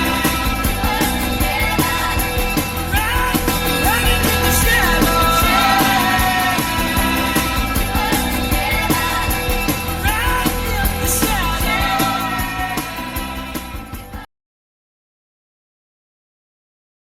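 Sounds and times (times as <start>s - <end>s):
rock music with vocals: 0.0s - 14.3s.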